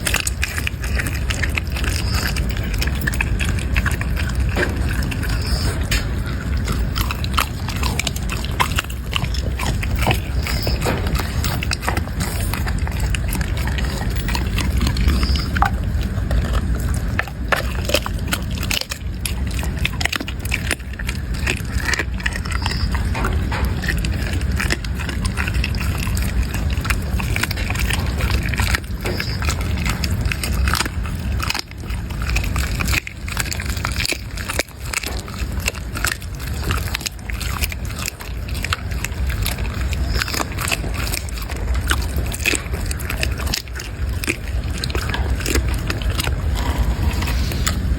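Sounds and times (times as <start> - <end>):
dog chewing wetly: 0.0 - 47.9
steady low rumble: 0.0 - 47.9.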